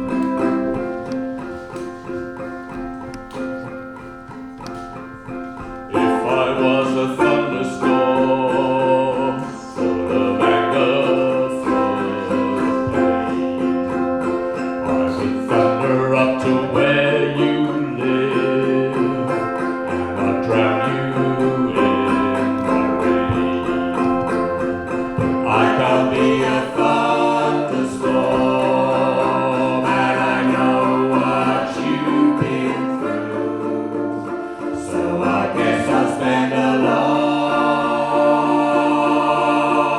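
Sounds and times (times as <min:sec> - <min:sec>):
wavering melody line: 0:00.0 - 0:34.0
plucked string instruments: 0:00.0 - 0:39.9
held drone note: 0:02.6 - 0:39.9.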